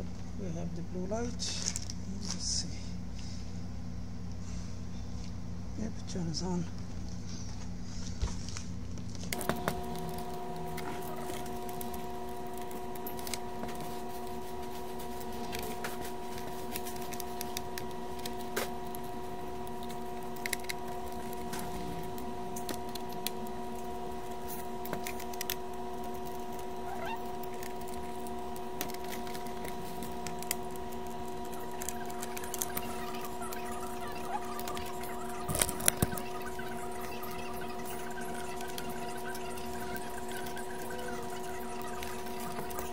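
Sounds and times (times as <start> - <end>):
steady electrical hum: 0.0 - 42.9.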